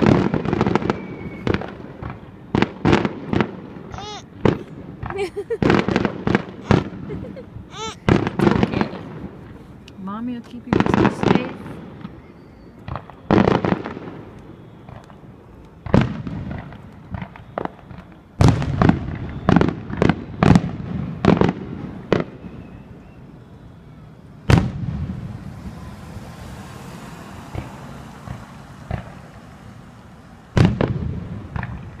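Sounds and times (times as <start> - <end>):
fireworks booming: 0.0 - 32.0.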